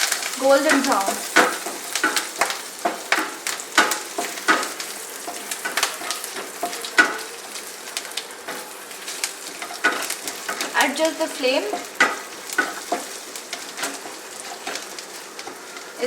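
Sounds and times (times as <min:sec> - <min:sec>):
spices sizzling in oil: 0:00.0 - 0:16.0.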